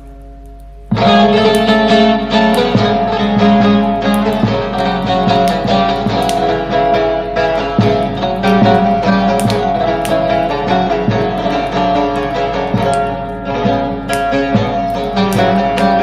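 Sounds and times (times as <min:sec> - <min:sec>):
plucked lute folk music: 0:00.9 - 0:16.0.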